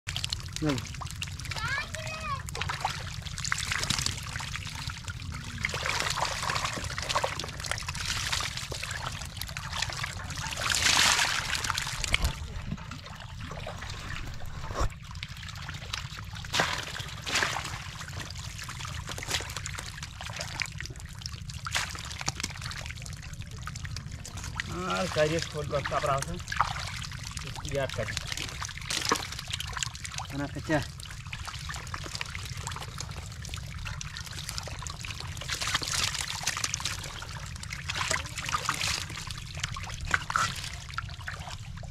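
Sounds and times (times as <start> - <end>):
water splash: 0.1 - 15.1, 15.8 - 20.9, 24.5 - 41.9
mud and water sloshing: 0.1 - 41.9.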